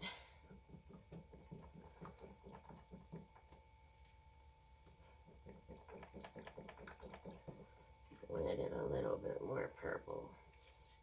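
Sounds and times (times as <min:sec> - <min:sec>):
wet squishing of stirred soap batter: 0:00.4 - 0:09.3.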